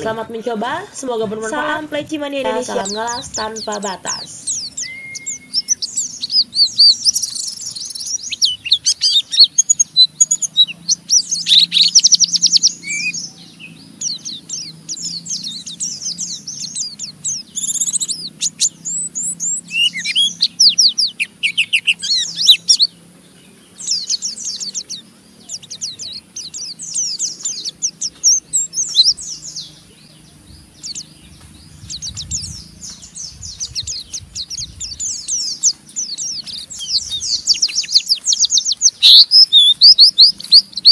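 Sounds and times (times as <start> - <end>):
birds chattering song: 0.0 - 40.9.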